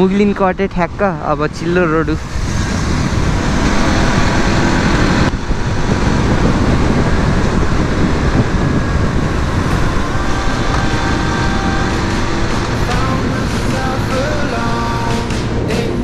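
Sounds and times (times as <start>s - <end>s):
wind rumble on microphone: 0.0s - 16.0s
motorcycle engine: 1.8s - 16.0s
tyre noise on road: 2.1s - 16.0s.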